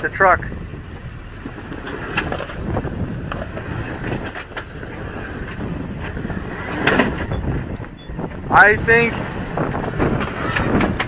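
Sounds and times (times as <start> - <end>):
tires grinding over rock: 0.0 - 11.0
truck engine rumbling: 0.0 - 11.0.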